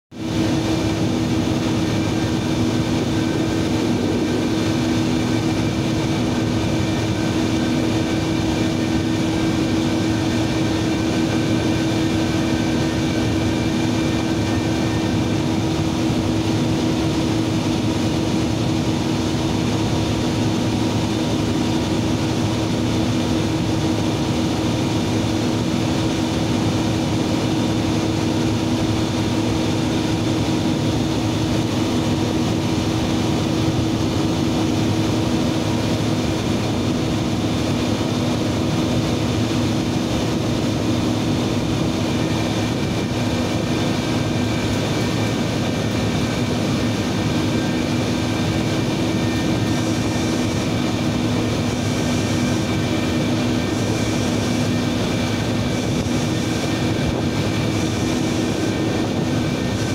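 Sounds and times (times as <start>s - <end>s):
industrial machinery hum: 0.1s - 59.9s
high-pitched whine: 0.2s - 59.9s.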